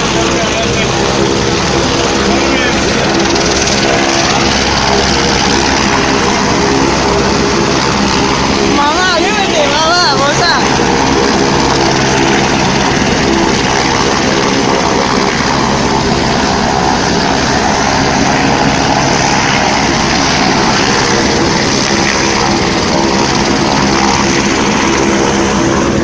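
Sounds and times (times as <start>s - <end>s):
helicopter engine and rotor running: 0.0s - 26.0s.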